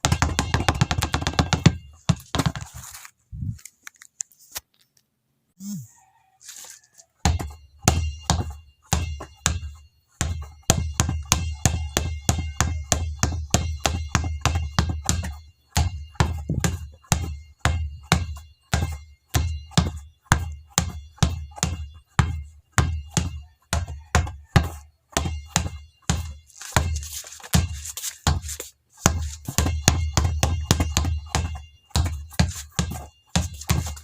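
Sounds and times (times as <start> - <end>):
basketball bouncing: 0.0 - 2.8, 7.2 - 34.0.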